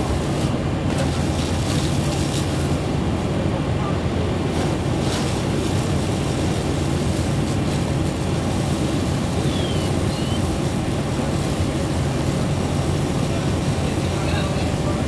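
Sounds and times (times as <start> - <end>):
fire roaring with water hosing: 0.0 - 15.0.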